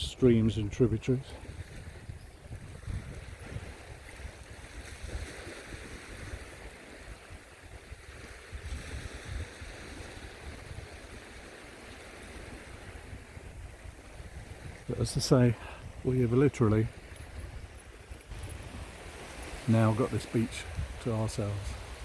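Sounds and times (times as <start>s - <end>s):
sea surf on beach: 0.0s - 22.0s
wind buffeting microphone: 0.0s - 22.0s.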